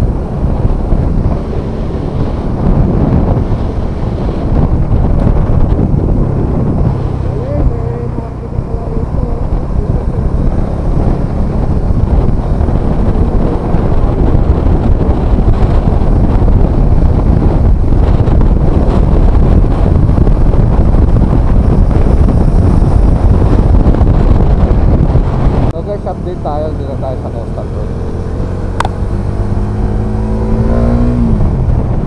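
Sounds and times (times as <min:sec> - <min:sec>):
motorcycle engine: 0:00.0 - 0:32.0
road noise: 0:00.0 - 0:32.0
wind rumbling on microphone: 0:00.0 - 0:32.0.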